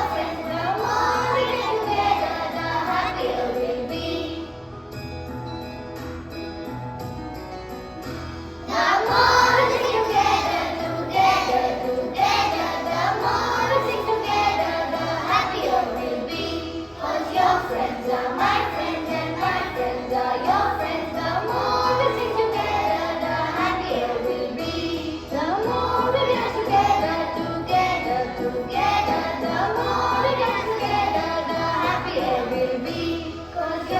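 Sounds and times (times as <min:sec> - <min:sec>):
children singing: 0:00.0 - 0:04.5, 0:08.7 - 0:33.9.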